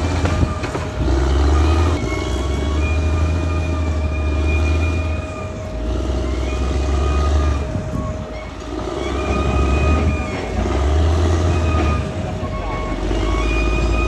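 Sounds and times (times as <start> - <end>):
bulldozer diesel engine droning: 0.0 - 14.0
steady engine whine: 0.0 - 14.0.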